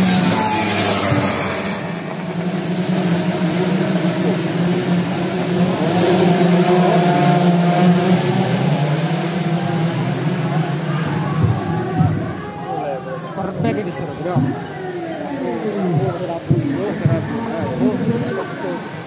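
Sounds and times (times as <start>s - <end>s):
racing motorcycle engines revving: 0.0s - 19.0s.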